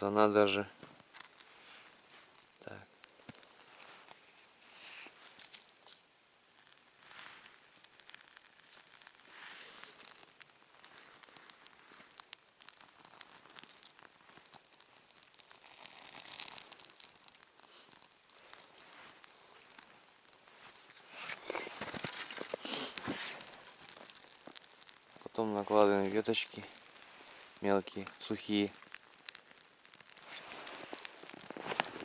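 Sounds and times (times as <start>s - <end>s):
bark and tinder crackling: 0.0s - 32.0s.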